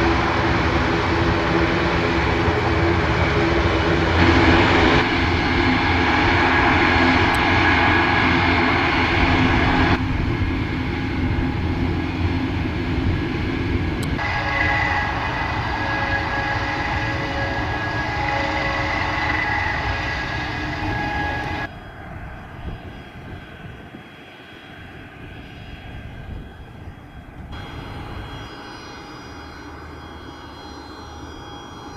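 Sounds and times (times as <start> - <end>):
propeller tones: 0.0 - 31.9
turboprop engines running: 0.0 - 31.9.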